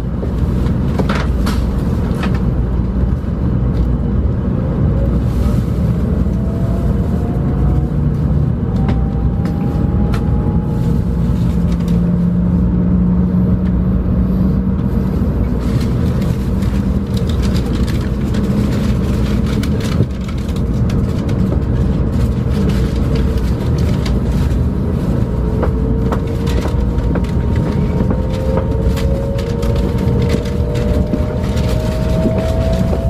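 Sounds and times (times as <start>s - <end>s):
train rumble inside cabin: 0.0s - 33.0s.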